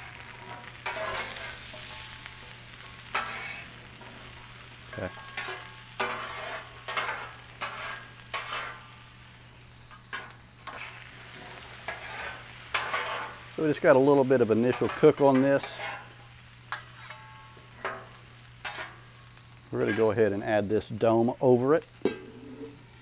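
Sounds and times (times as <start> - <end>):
food sizzling in oil: 0.0 - 23.0
metal spatulas scraping griddle: 0.2 - 2.2, 2.8 - 8.9, 10.1 - 19.0, 19.8 - 20.2, 22.0 - 23.0.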